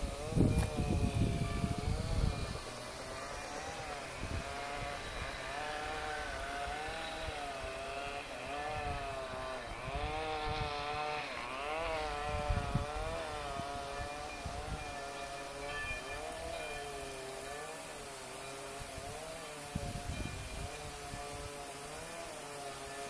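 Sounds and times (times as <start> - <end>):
chainsaw running at high revs: 0.0 - 23.0.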